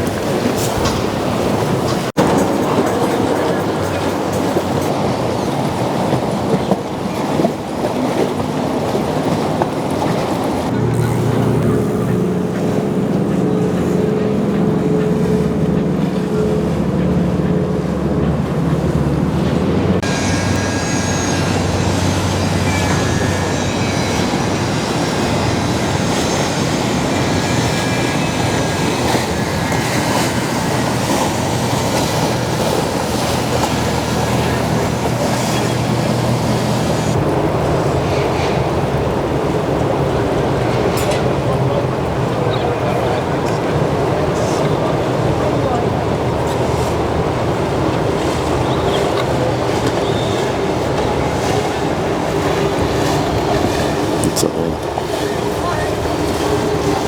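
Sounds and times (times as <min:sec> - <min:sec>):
boat engines running: 0:00.0 - 0:57.0.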